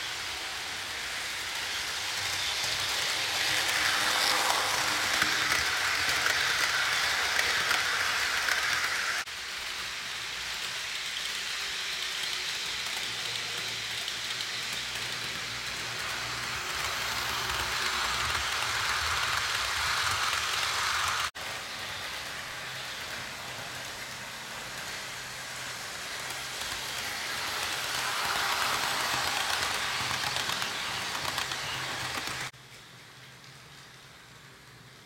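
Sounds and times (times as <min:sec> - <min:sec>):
model train running on track: 0:00.0 - 0:35.0.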